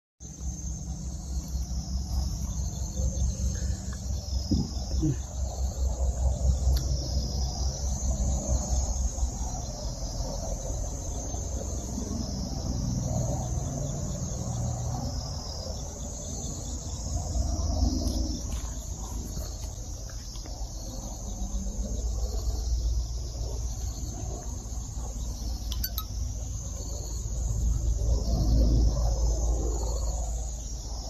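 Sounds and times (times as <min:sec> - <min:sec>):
insects shrilling: 0:00.6 - 0:27.6.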